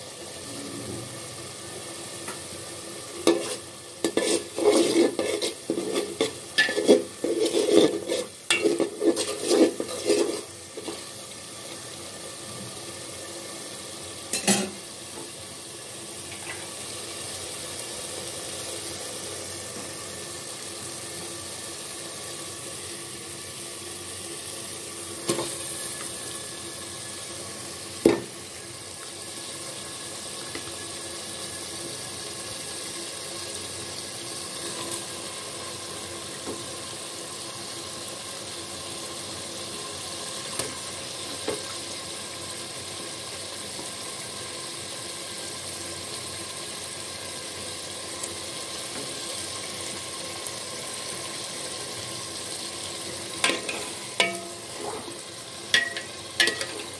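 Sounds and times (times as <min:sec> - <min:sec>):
beef sizzling in oil: 0:00.0 - 0:56.9.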